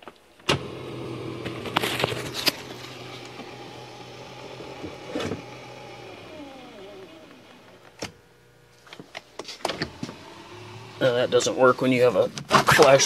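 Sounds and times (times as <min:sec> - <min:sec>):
seat motor humming: 0:00.4 - 0:12.4.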